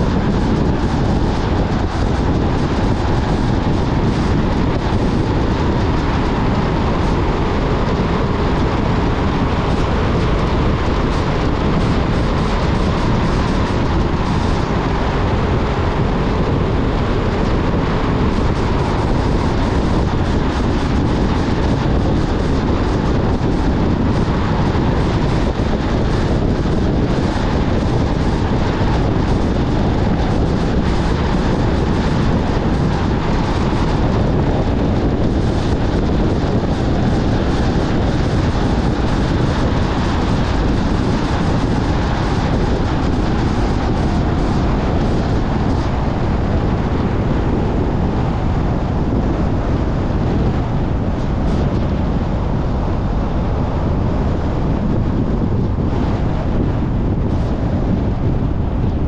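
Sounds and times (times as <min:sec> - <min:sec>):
car road noise: 0:00.0 - 0:59.0
wind noise from driving car: 0:00.0 - 0:59.0.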